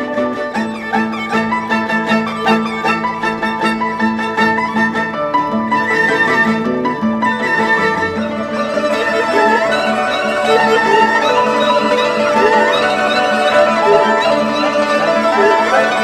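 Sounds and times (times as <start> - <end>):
bowed strings melody: 0.0 - 16.0
high string trills and slides: 0.0 - 16.0
traditional orchestra playing: 0.0 - 16.0.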